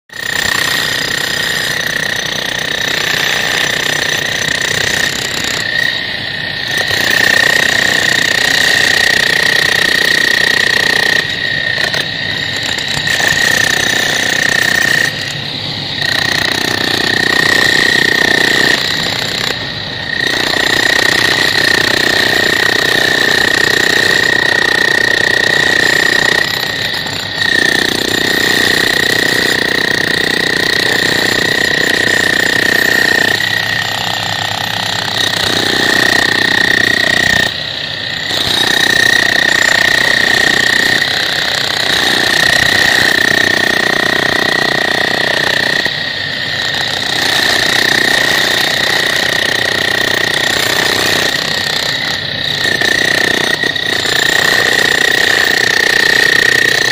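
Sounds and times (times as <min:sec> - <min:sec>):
demolition hammers chiselling concrete: 0:00.2 - 0:56.9.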